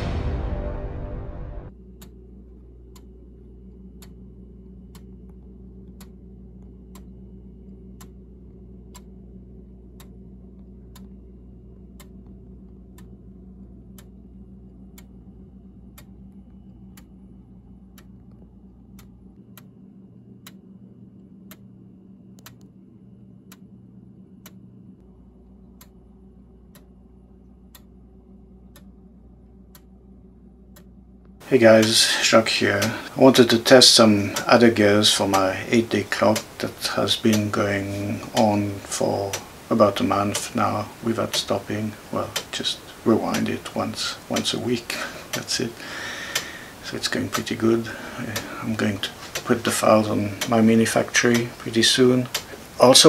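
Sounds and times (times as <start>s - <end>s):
faint low hum: 0.0s - 53.0s
clock ticking: 2.9s - 19.8s, 25.4s - 30.0s, 30.7s - 53.0s.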